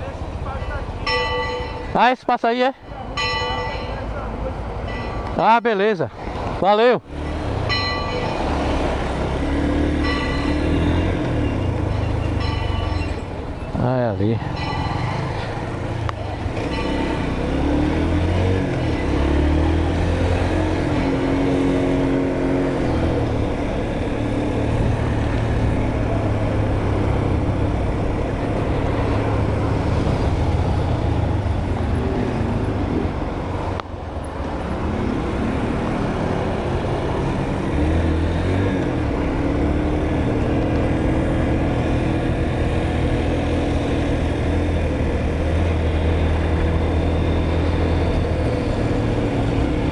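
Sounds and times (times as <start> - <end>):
road noise: 0.0 - 49.9
motorcycle engine revving: 7.1 - 13.1, 14.4 - 33.2, 34.6 - 49.9.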